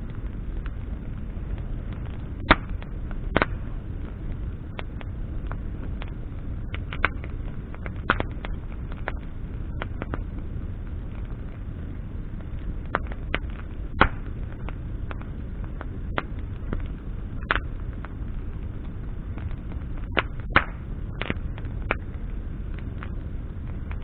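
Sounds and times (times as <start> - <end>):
campfire crackling and popping: 0.0 - 24.0
low fire rumble: 0.0 - 24.0.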